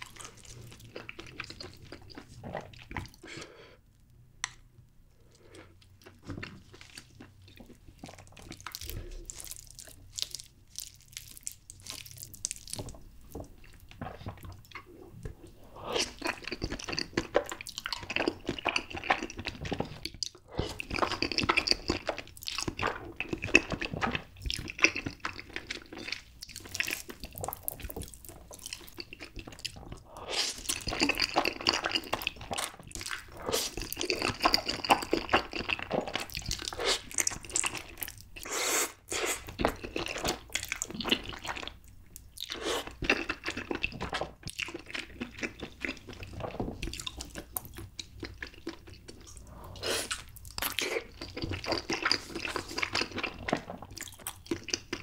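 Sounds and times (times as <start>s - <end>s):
slurping and chewing noodles: 0.0s - 3.6s, 5.3s - 55.0s.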